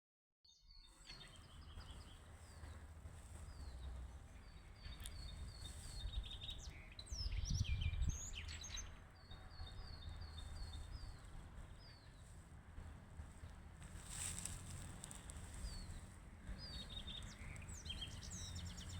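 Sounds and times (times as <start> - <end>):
songbirds singing: 0.5 - 18.9.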